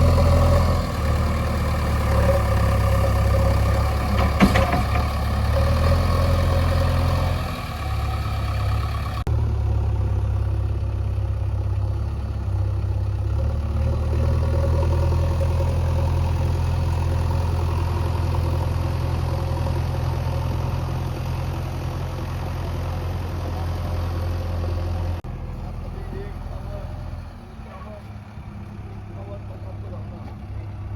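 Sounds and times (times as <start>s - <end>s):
heavy diesel engine running: 0.0s - 30.9s.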